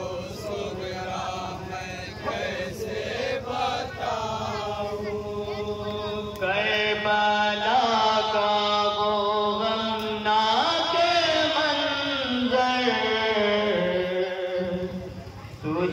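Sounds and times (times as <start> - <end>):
men chanting lament over loudspeaker: 0.0 - 15.9
steady low hum: 0.0 - 15.9.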